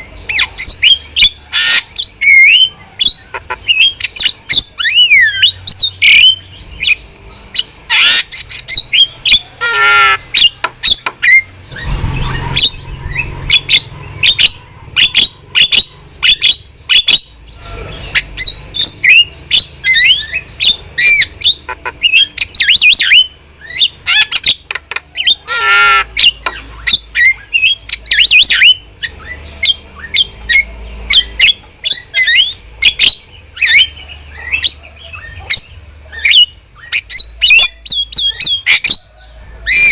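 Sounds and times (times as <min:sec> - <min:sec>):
bird squawks: 0:00.0 - 0:39.9
starling singing: 0:00.0 - 0:39.9.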